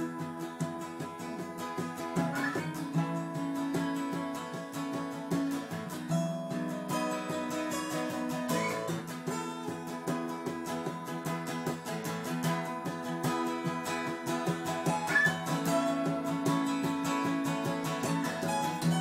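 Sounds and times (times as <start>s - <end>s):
acoustic guitars strumming chords: 0.0s - 19.0s.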